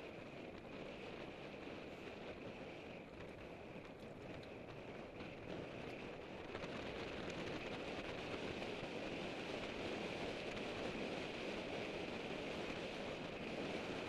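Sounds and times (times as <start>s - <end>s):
tyres humming on tarmac: 0.0s - 14.0s
wind rushing over microphone: 0.0s - 14.0s.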